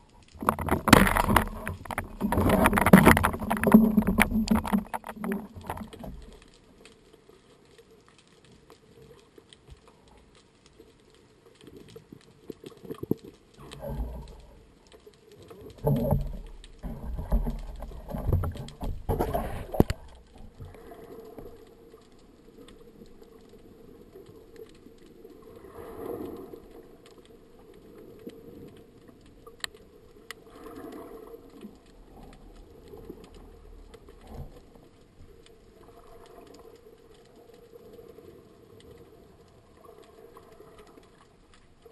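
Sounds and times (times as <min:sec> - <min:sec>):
faint clicks: 0:00.0 - 0:41.9
muffled underwater wash: 0:00.0 - 0:41.9
water sloshing and splashing: 0:00.0 - 0:41.9.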